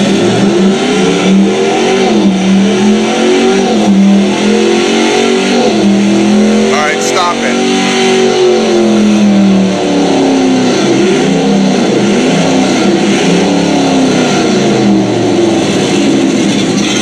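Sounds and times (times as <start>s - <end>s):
synthesized engine revving: 0.0s - 17.0s.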